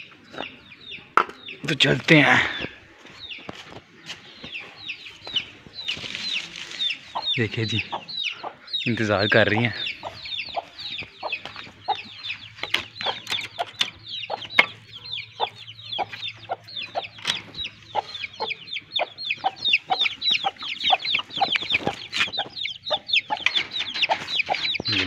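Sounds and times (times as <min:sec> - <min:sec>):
chicks peeping: 0:00.0 - 0:25.0
hens clucking: 0:00.0 - 0:25.0.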